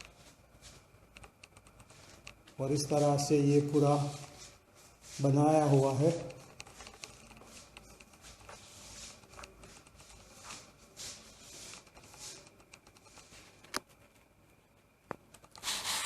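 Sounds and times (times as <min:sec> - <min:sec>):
faint rustling and handling: 0:00.0 - 0:16.0.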